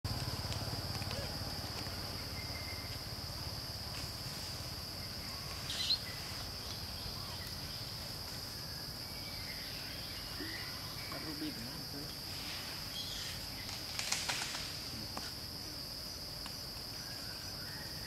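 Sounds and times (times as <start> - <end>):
insects droning: 0.1 - 18.0.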